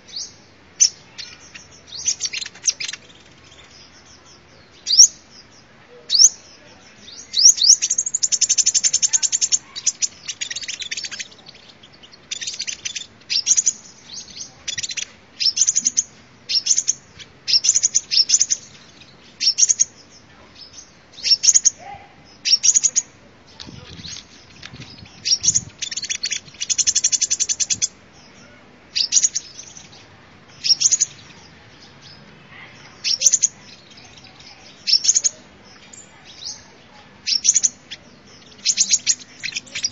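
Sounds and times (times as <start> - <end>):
sunbird trilling song: 0.0 - 39.9.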